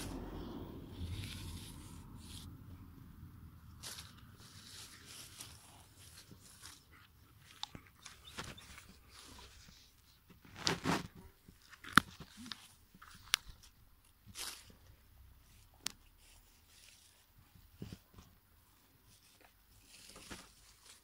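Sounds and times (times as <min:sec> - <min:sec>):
branches and leaves rustling: 0:00.0 - 0:21.0.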